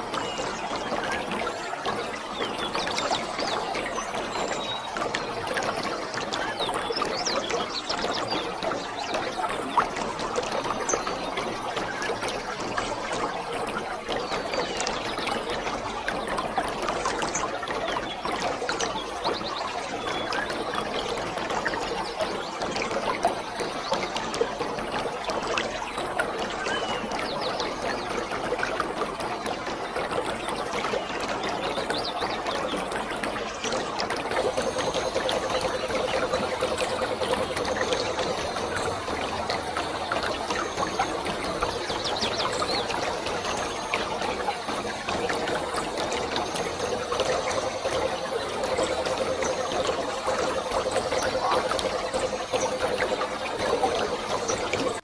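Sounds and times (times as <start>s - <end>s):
waterfall pouring and splashing: 0.0s - 55.0s.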